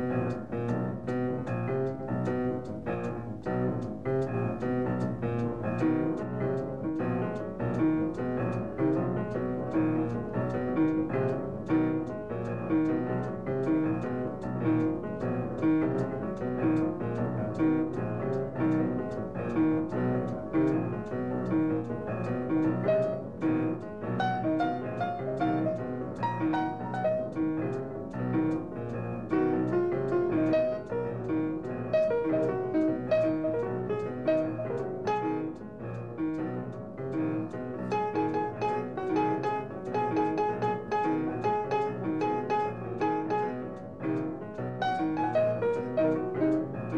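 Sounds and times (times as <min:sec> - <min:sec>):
jazz piano: 0:00.0 - 0:46.9.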